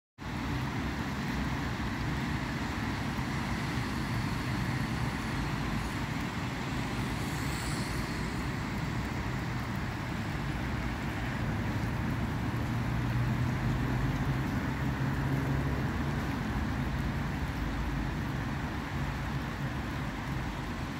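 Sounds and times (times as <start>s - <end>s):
tyres on wet road: 0.2s - 20.9s.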